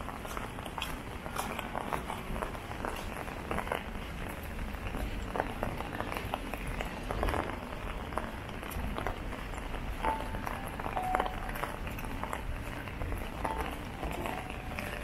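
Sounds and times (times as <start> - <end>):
drizzle pattering on an umbrella: 0.0 - 15.0
footsteps on wet pavement: 0.0 - 15.0
low city rumble: 0.0 - 15.0.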